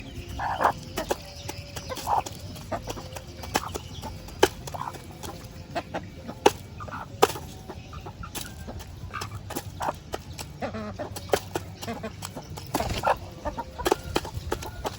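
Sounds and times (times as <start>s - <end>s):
chickens clucking: 0.0s - 14.9s.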